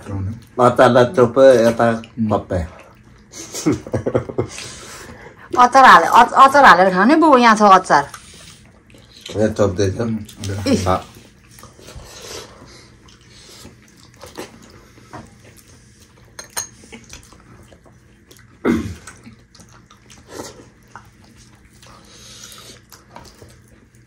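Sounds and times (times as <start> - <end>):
wet chewing: 0.0 - 3.6, 7.4 - 24.0.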